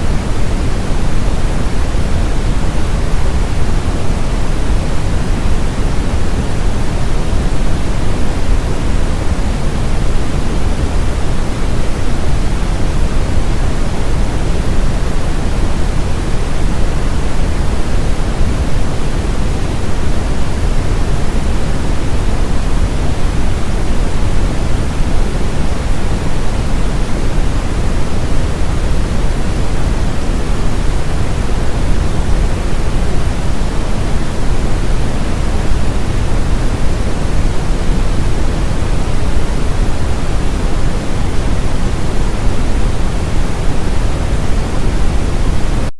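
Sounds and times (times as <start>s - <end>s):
brown noise hiss: 0.0s - 45.9s.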